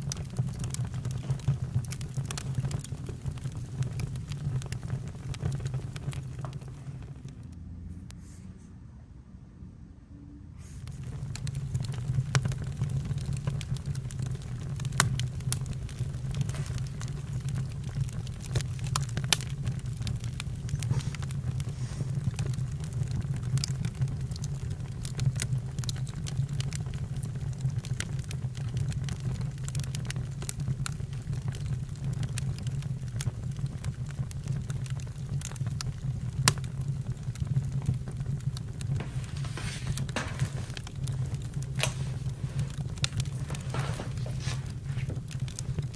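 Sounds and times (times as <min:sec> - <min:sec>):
campfire crackling: 0:00.0 - 0:07.5, 0:10.8 - 0:45.9.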